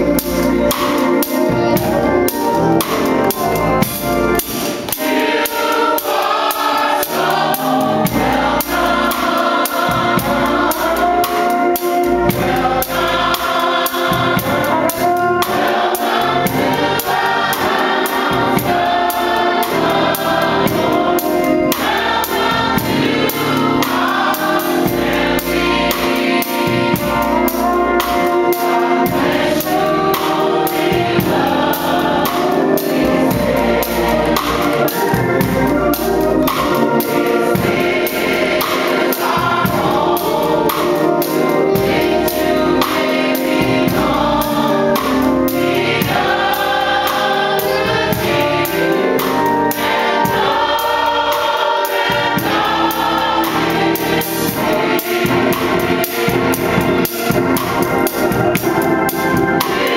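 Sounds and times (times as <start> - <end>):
gospel choir singing: 0.0 - 59.9
keyboard accompaniment: 0.0 - 59.9
steady beat: 0.0 - 59.9.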